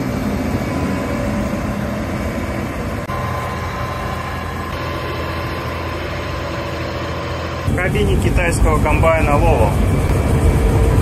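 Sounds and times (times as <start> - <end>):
combine harvester engine drone: 0.0 - 11.0
thin steady whine: 0.0 - 11.0.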